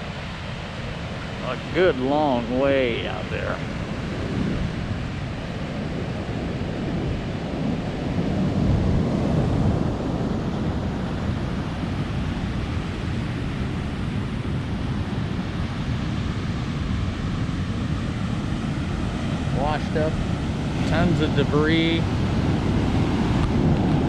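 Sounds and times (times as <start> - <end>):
surf washing on beach: 0.0 - 24.0
wind buffeting microphone: 0.0 - 24.0.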